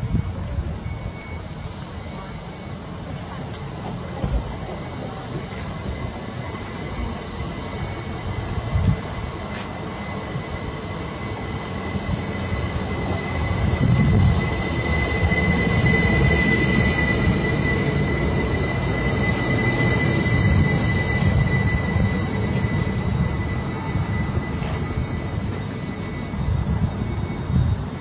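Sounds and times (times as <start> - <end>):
high-pitched brake squeal: 0.0 - 28.0
train coaches rumbling: 0.0 - 28.0.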